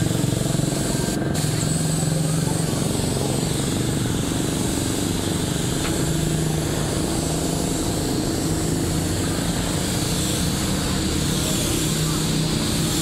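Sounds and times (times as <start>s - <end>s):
air compressor humming: 0.0s - 13.0s
spray gun hissing: 0.0s - 13.0s.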